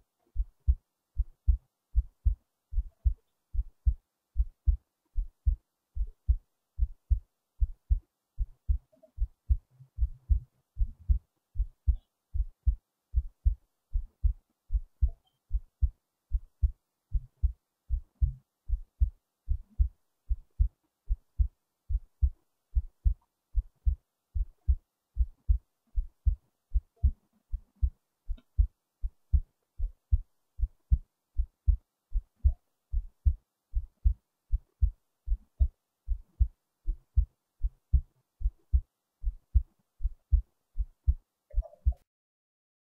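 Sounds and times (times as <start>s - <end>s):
heartbeat thumps: 0.3s - 42.0s.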